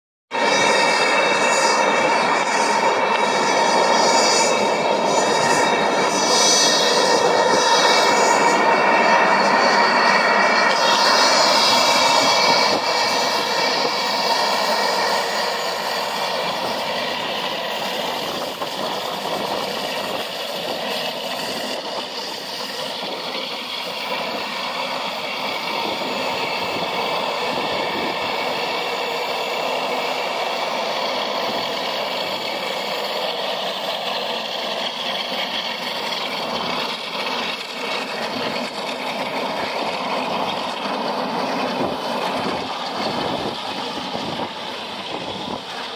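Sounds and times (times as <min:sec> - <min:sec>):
jet taxiing with steady whine: 0:00.3 - 0:45.9.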